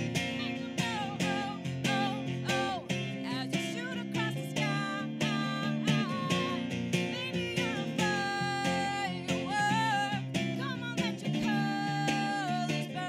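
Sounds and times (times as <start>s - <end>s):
strummed acoustic guitar: 0.0s - 13.0s
woman singing: 0.0s - 13.0s.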